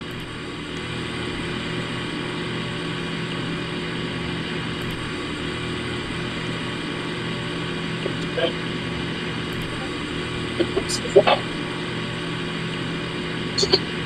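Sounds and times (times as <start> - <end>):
heat pump machine hum: 0.0 - 14.0.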